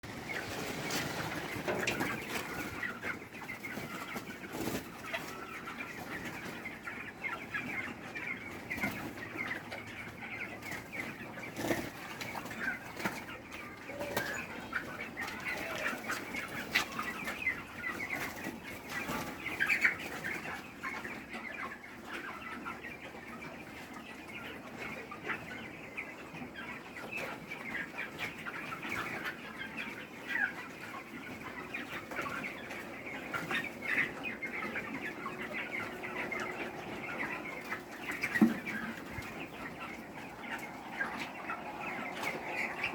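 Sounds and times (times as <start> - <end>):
chickens chirping and clucking: 0.0 - 42.9.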